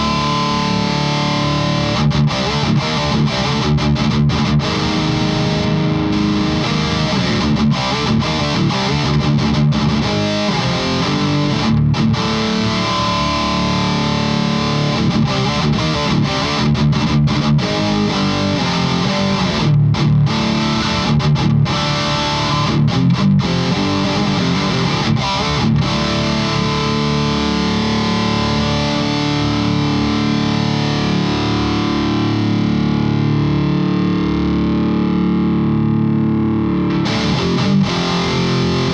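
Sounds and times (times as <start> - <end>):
distorted electric guitar riffs: 0.0 - 38.9.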